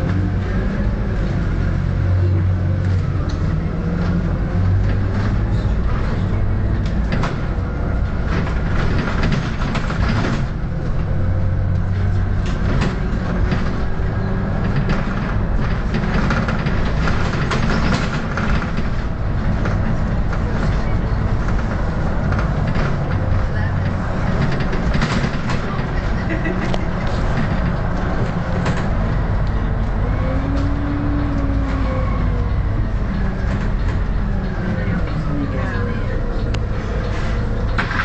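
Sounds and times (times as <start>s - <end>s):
bus diesel engine drone: 0.0s - 38.0s
bodywork clicks and rattles: 2.6s - 38.0s.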